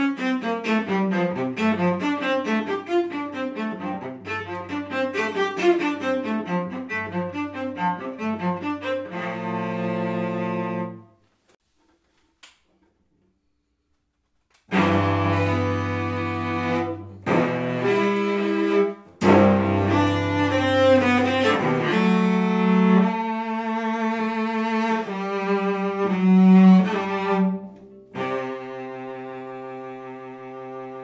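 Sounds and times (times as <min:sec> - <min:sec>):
bowed cello: 0:00.0 - 0:11.1, 0:14.7 - 0:31.0.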